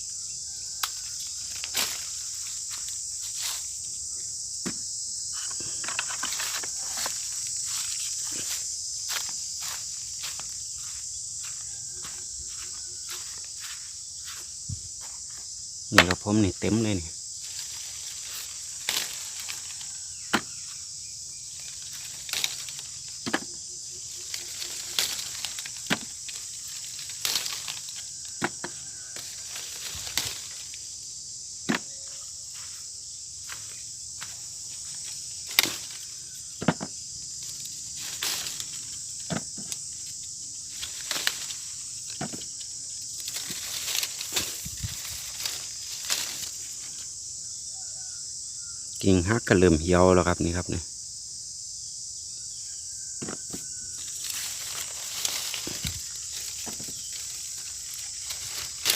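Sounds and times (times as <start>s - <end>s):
insects chorus: 0.0s - 58.9s.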